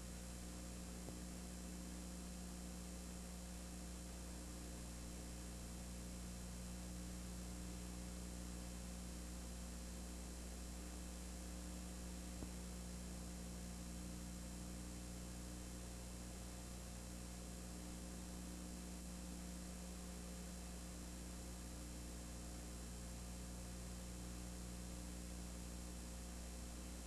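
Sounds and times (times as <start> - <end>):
electrical hum with hiss: 0.0 - 27.0.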